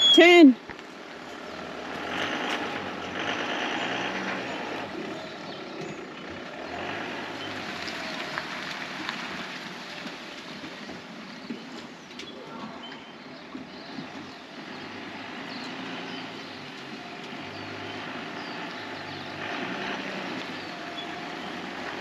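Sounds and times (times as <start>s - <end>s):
vehicle engine at low revs: 0.0s - 22.0s.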